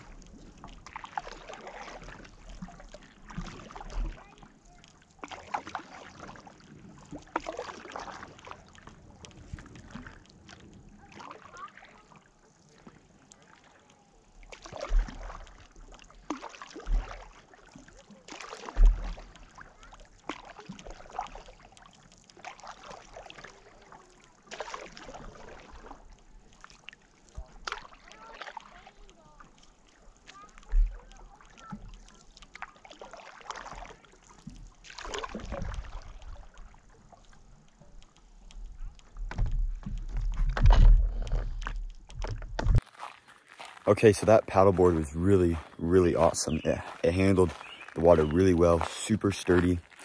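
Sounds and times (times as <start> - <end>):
paddle splashing in water: 0.0 - 50.0.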